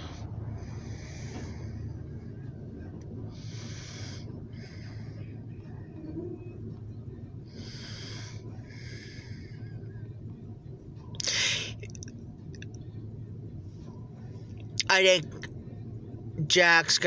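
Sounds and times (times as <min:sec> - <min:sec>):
soft breaths: 0:00.0 - 0:14.8
low engine hum: 0:00.0 - 0:17.0.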